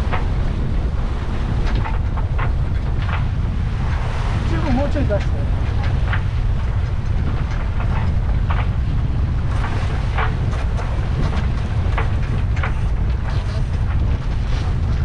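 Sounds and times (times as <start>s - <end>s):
bow wave splashing along hull: 0.0s - 15.0s
wind buffeting microphone: 0.0s - 15.0s.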